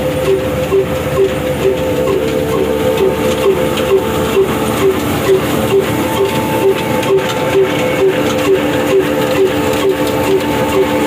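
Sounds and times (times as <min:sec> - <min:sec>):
diesel engine running slowly: 0:00.0 - 0:11.0.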